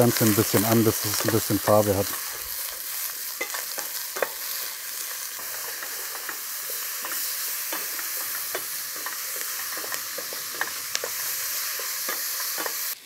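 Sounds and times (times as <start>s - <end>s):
vegetables sizzling in fat: 0.0s - 13.0s.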